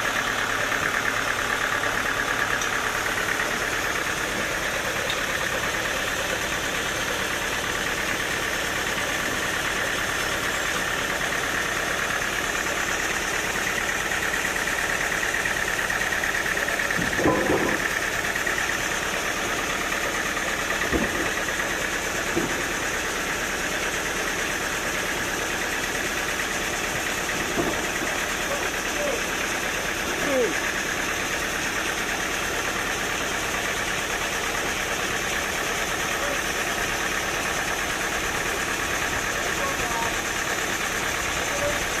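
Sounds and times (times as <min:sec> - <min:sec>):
sawmill machinery humming: 0:00.0 - 0:42.0.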